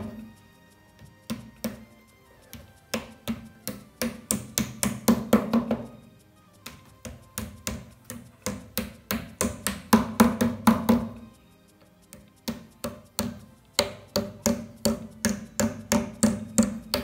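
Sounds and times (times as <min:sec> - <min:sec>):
hammer tapping plastic feet: 0:00.9 - 0:11.4, 0:12.1 - 0:17.0.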